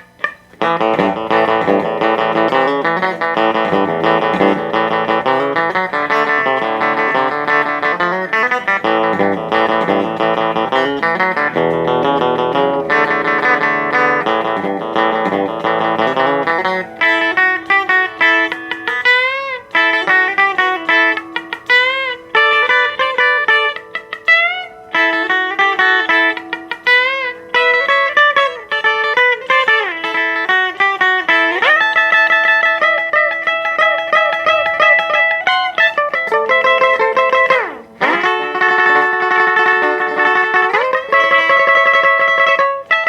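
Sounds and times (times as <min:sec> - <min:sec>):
electric guitar playing surf rock: 0:00.0 - 0:43.0.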